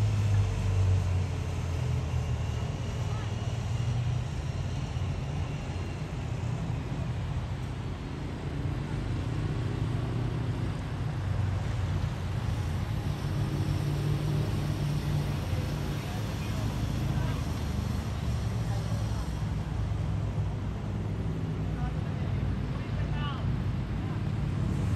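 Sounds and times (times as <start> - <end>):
faint engine hum: 0.0 - 24.9
road traffic rumble: 0.0 - 24.9.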